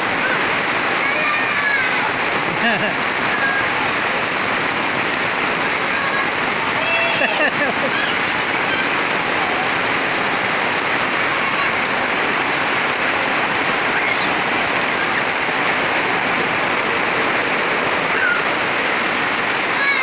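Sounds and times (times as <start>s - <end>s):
heavy rain on pavement: 0.0s - 20.0s.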